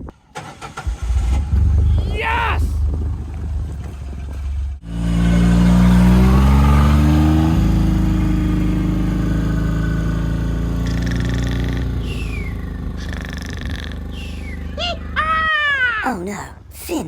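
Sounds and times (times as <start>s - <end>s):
off-road vehicle engine accelerating: 0.4s - 15.5s.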